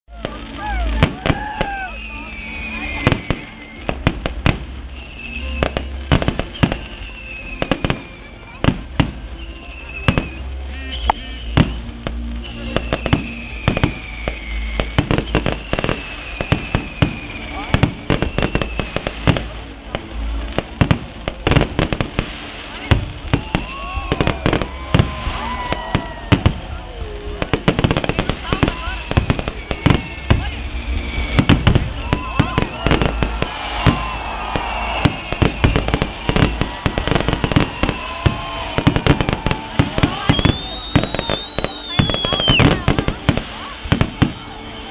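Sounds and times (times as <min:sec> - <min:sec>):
firework high whistle: 0:00.1 - 0:08.6, 0:09.2 - 0:20.4, 0:21.5 - 0:44.9
fireworks bangs and pops: 0:00.1 - 0:44.9
music: 0:00.1 - 0:44.9.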